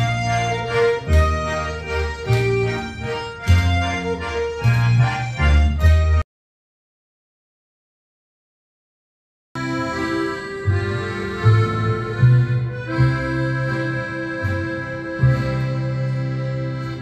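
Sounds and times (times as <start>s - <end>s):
accordion chords with bass line: 0.0s - 6.3s, 9.6s - 17.0s.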